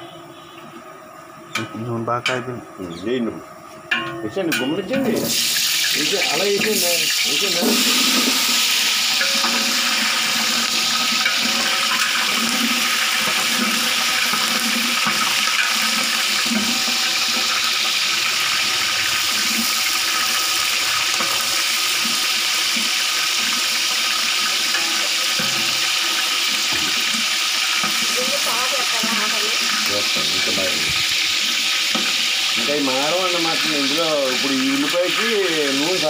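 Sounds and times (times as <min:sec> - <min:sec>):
onions sizzling in hot oil: 0:02.8 - 0:36.0.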